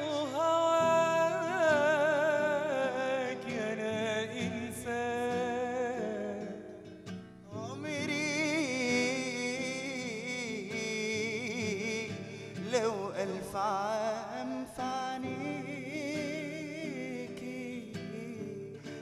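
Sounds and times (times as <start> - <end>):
acoustic guitar: 0.0 - 19.0
man singing: 0.0 - 19.0.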